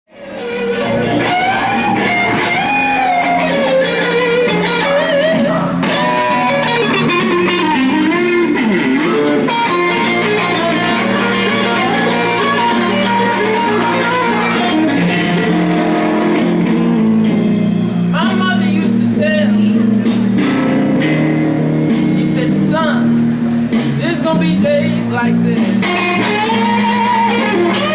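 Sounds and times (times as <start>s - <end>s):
electric guitar instrumental: 0.1s - 27.9s.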